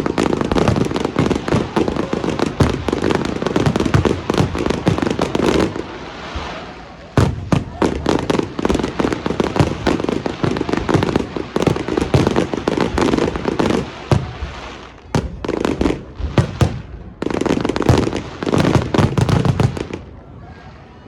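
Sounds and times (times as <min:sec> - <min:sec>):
fireworks crackling and popping: 0:00.0 - 0:20.1.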